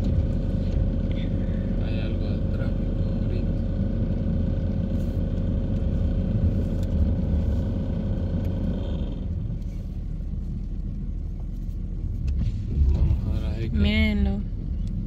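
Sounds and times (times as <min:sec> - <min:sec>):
engine and road rumble: 0:00.0 - 0:15.0
steady hum: 0:00.0 - 0:15.0.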